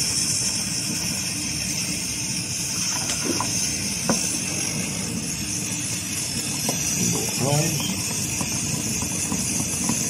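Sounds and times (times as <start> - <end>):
stove burning with hiss: 0.0 - 10.0.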